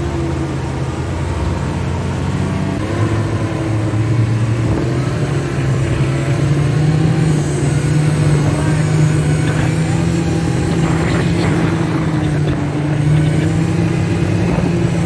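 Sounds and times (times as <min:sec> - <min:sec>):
snowmobile engine running: 0:00.0 - 0:15.0
wind and track noise: 0:00.0 - 0:15.0.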